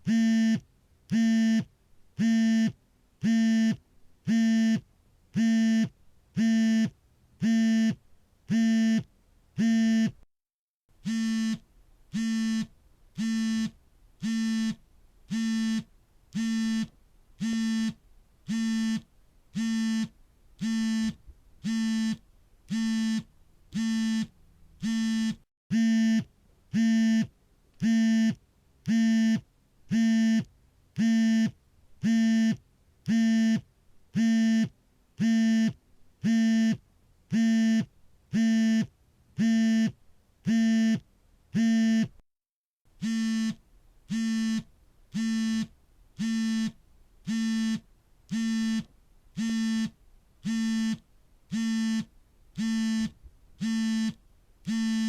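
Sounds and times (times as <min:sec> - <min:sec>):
phone buzzing on vibrate: 0:00.0 - 0:04.8, 0:05.4 - 0:10.2, 0:11.0 - 0:41.0, 0:41.6 - 0:42.2, 0:43.0 - 0:55.0.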